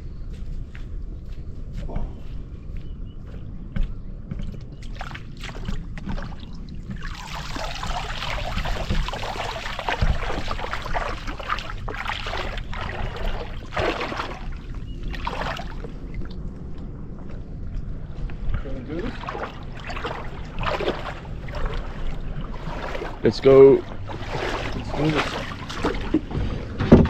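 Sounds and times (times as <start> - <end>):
low rumble: 0.0 - 27.0
water splashing around a boat: 4.8 - 27.0.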